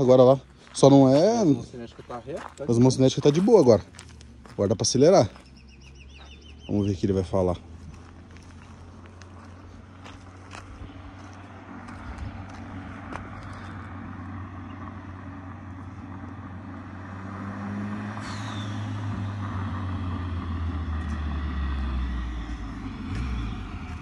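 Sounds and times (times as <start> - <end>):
car engine and tyre noise: 0.0 - 24.0.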